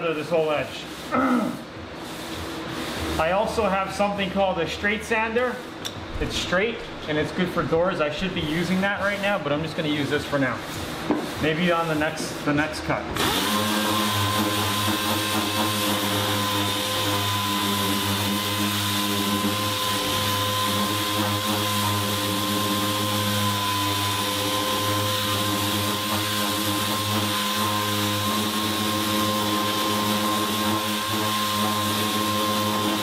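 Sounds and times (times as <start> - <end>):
air sander whining: 0.0 - 33.0.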